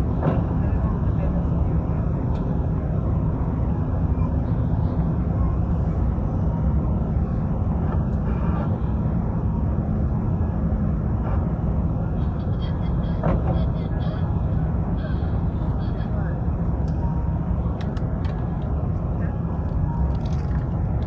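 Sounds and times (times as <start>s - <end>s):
aircraft cabin rumble: 0.0s - 21.0s.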